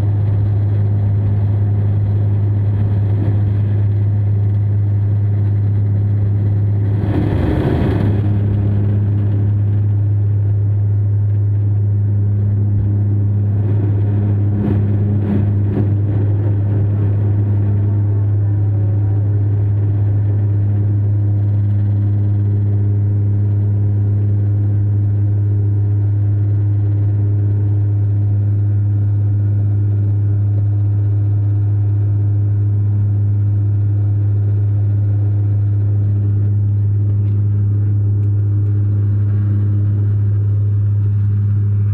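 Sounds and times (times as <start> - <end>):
airliner engines droning: 0.0 - 41.9.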